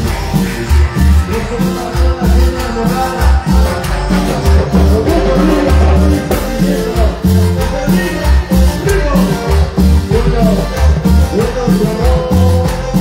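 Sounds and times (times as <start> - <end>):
live band playing through speakers: 0.0 - 13.0
pulsing bass beat: 0.0 - 13.0.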